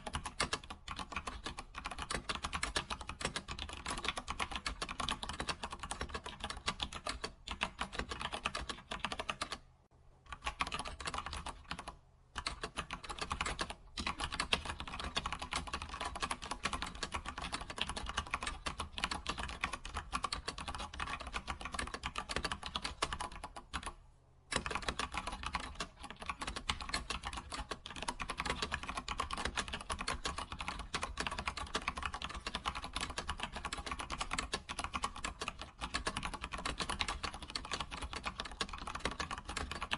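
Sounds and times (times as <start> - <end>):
keyboard typing: 0.0 - 9.7, 10.3 - 39.9.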